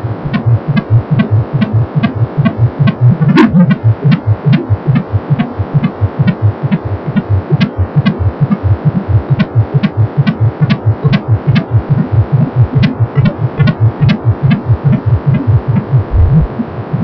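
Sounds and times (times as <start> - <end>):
fast fetal heartbeat pulsing: 0.0 - 17.0.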